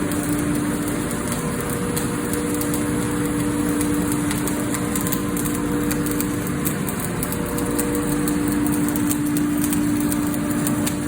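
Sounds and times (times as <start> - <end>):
steady machine hum: 0.0 - 11.0
welding arc crackling: 0.0 - 11.0.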